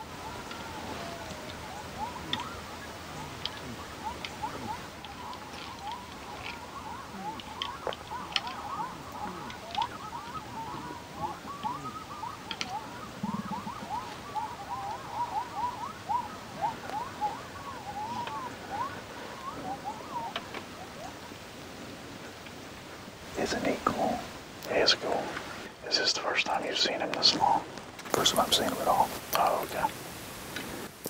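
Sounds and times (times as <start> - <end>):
chorus of animal chirps: 0.0 - 29.9.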